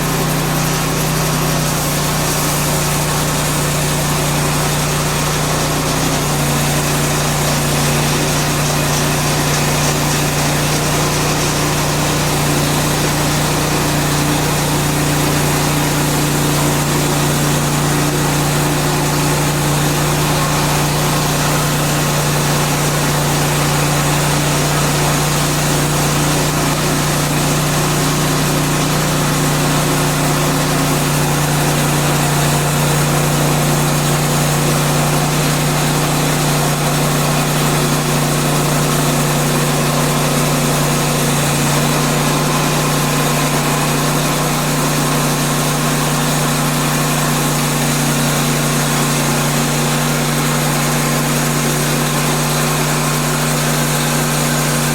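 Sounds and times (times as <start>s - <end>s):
bandsaw mill sawing log: 0.0s - 54.9s.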